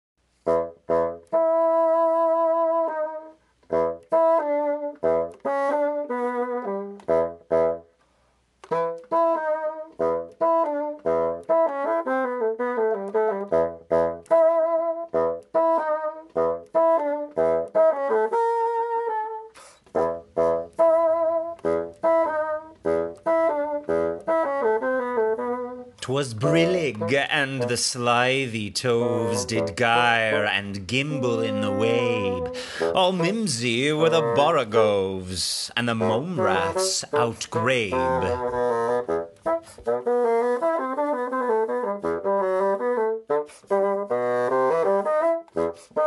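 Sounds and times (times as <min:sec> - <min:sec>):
bassoon playing jaunty melody: 0:00.3 - 0:07.9, 0:08.6 - 0:46.0.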